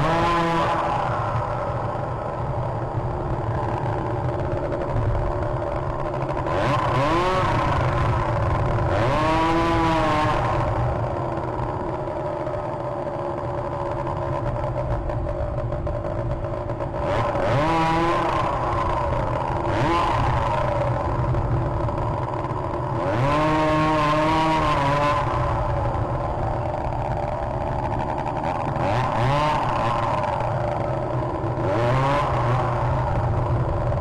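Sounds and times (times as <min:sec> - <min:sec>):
motor engines passing by: 0:00.0 - 0:34.0
steady mechanical hum: 0:00.0 - 0:34.0.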